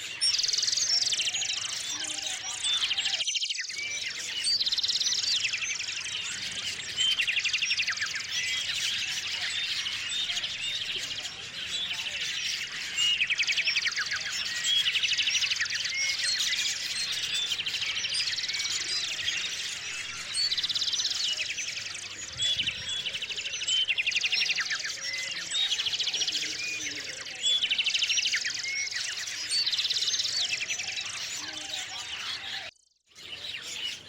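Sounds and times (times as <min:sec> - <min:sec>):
small songbirds trilling and chirping: 0:00.0 - 0:34.0.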